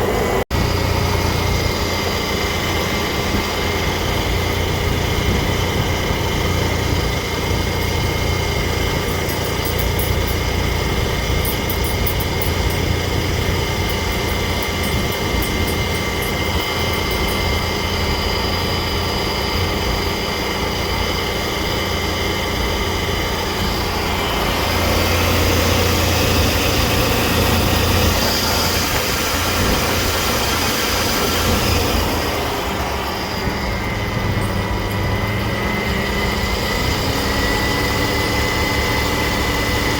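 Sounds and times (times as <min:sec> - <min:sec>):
car engine humming: 0:00.0 - 0:39.9
high whining tones: 0:00.0 - 0:39.9.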